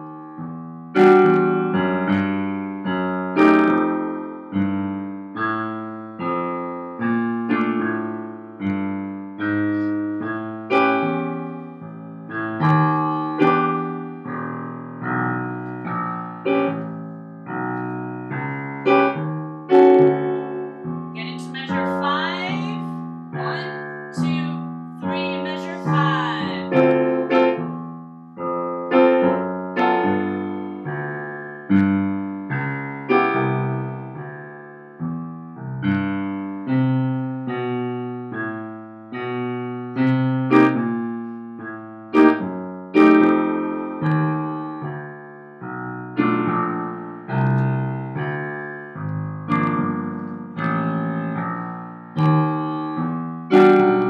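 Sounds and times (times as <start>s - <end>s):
digital piano playing: 0.0s - 54.0s.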